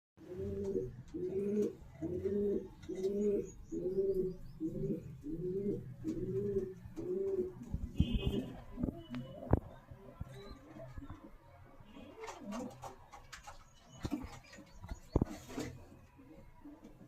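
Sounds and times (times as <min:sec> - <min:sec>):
pigeon cooing: 0:00.2 - 0:17.0.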